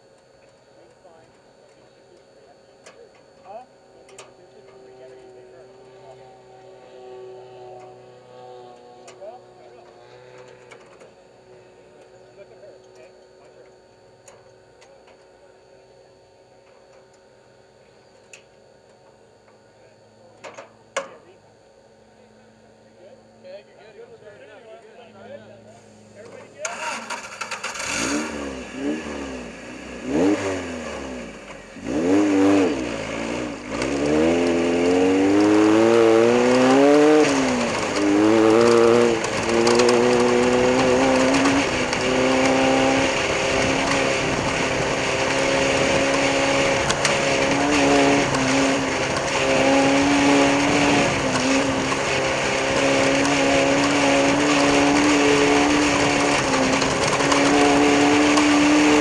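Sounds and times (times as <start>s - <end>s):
race vehicle engine revving: 0.8s - 15.1s, 25.8s - 59.0s.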